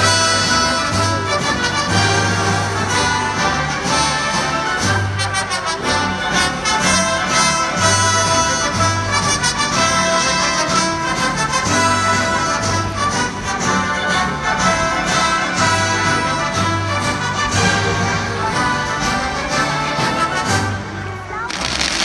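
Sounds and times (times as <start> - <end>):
brass: 0.0 - 22.0
orchestra playing: 0.0 - 22.0.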